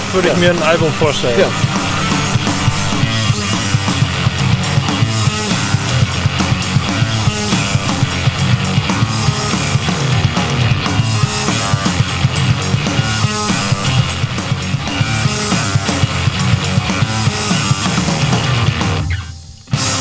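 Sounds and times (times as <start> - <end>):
driving drum beat: 0.0 - 20.0
rock band playing: 0.0 - 20.0.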